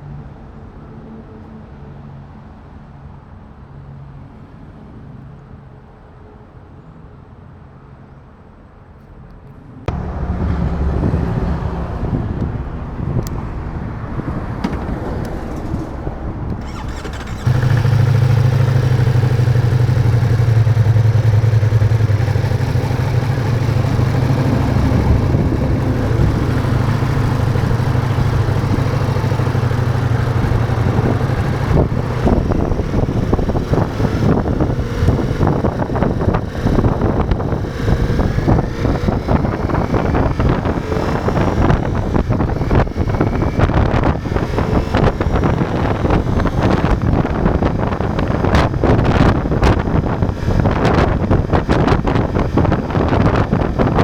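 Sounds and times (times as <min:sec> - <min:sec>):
motorcycle engine starting and running: 0:09.9 - 0:54.0.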